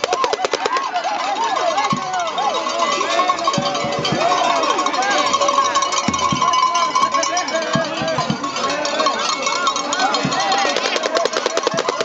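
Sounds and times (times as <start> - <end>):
crowd voices: 0.0 - 12.0
festival music with held tone: 0.0 - 12.0.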